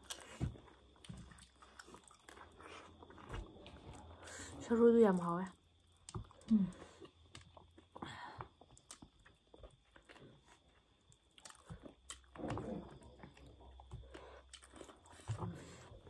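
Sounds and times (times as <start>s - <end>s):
small crunches and mouth clicks: 0.0s - 4.1s, 5.8s - 15.9s
chewing and biting food: 0.0s - 4.3s, 5.8s - 16.0s.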